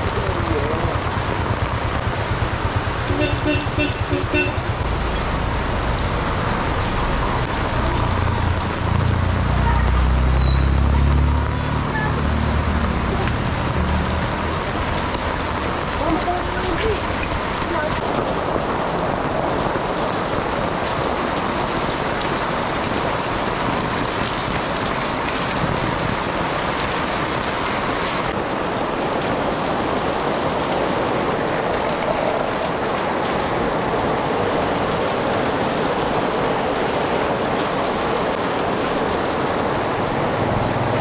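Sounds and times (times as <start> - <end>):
heavy rain on concrete: 0.0 - 41.0.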